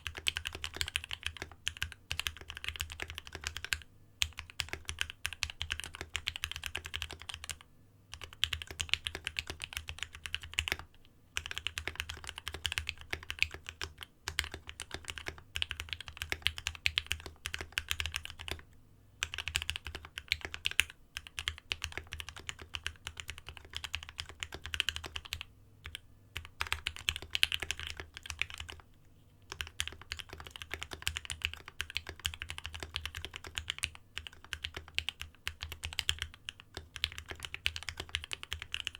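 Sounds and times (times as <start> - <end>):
fast typing on mechanical keyboard: 0.0 - 18.6, 19.2 - 28.9, 29.5 - 38.9.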